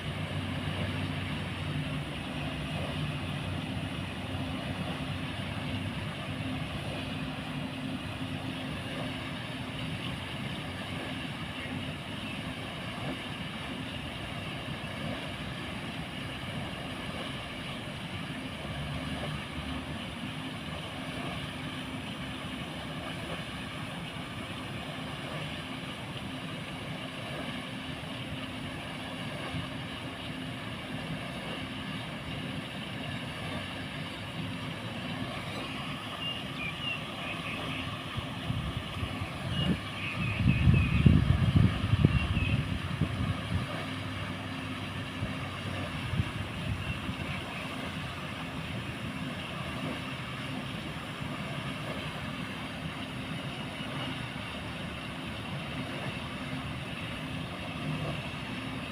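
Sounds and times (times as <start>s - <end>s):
churned water washing: 0.0s - 58.9s
motor hum: 0.0s - 58.9s.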